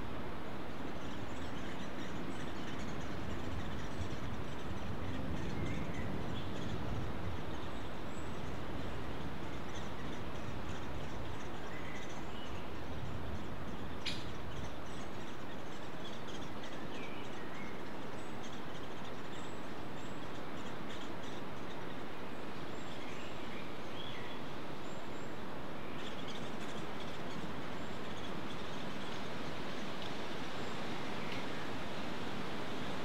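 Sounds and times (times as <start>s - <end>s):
background hiss: 0.0s - 33.0s
birds chirping and whistling: 0.9s - 22.1s, 22.7s - 30.0s.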